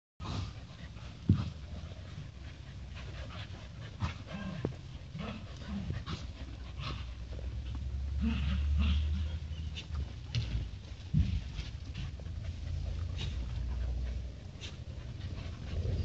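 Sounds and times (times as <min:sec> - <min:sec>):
dogs vocal noises: 0:00.2 - 0:10.6, 0:11.9 - 0:16.0
dogs panting: 0:00.2 - 0:16.0
low hum: 0:00.5 - 0:16.0.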